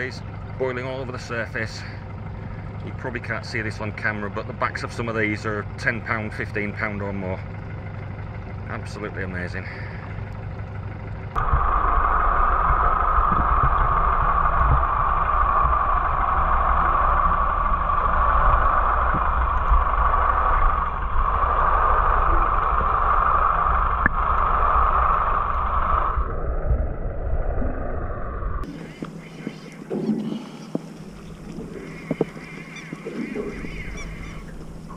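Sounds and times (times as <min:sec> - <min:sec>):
underwater rumble and hiss: 0:00.0 - 0:34.9.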